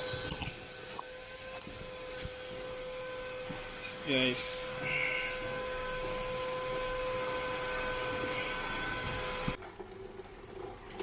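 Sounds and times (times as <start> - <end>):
machine humming and whining: 0.0 - 9.6.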